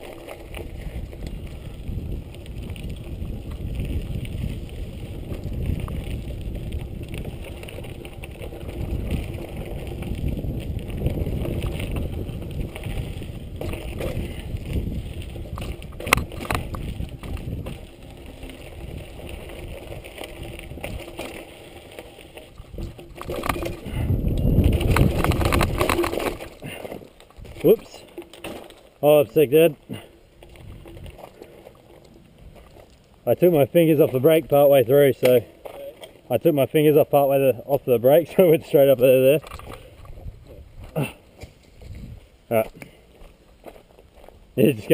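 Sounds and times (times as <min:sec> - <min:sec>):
wind rumbling on microphone: 0:00.0 - 0:28.0, 0:29.3 - 0:35.1, 0:39.0 - 0:44.9
bike tyres and frame rattling: 0:00.0 - 0:44.9.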